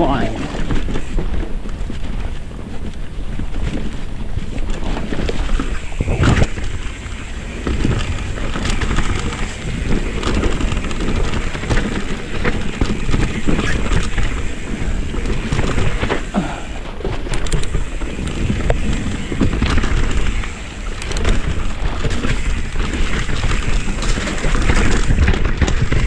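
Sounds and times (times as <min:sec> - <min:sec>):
bike knocking and rattling: 0:00.0 - 0:26.0
bike tyres on dirt trail: 0:00.0 - 0:26.0
wind buffeting microphone: 0:00.0 - 0:26.0.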